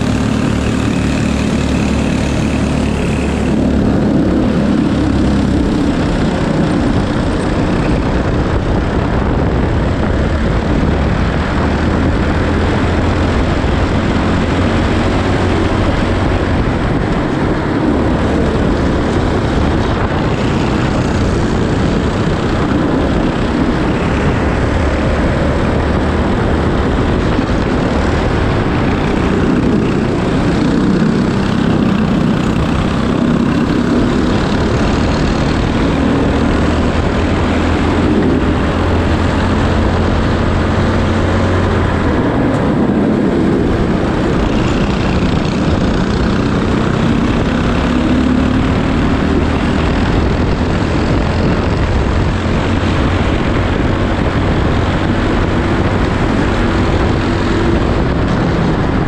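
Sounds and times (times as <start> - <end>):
racing kart engine revving: 0.0 - 9.4, 10.4 - 59.0
rush of wind: 0.0 - 59.0.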